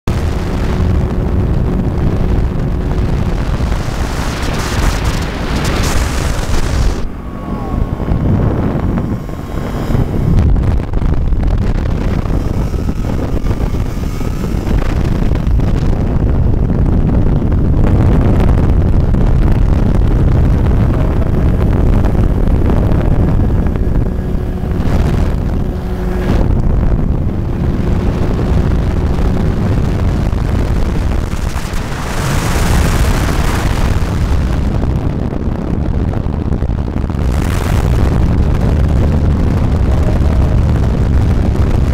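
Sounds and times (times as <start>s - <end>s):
ultralight engine and propeller: 0.0s - 41.9s
wind buffeting microphone: 0.0s - 41.9s.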